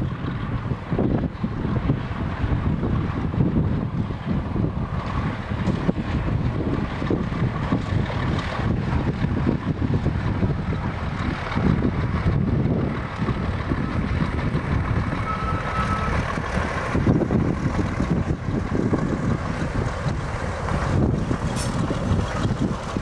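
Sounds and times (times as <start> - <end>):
diesel locomotive rumbling past: 0.0 - 23.0
wind buffeting microphone: 0.0 - 23.0.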